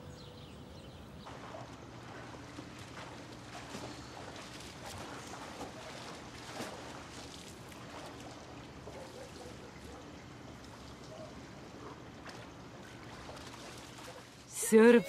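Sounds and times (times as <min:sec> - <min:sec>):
pool water sloshing and splashing: 0:01.0 - 0:15.0.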